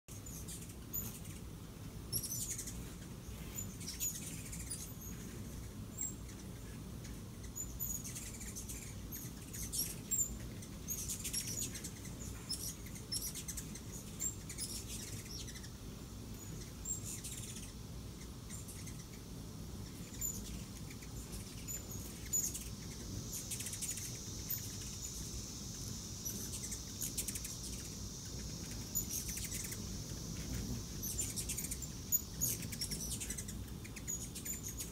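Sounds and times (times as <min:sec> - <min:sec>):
hummingbird chips and chattering: 0:00.1 - 0:34.9
steady high-pitched buzz: 0:00.1 - 0:34.9.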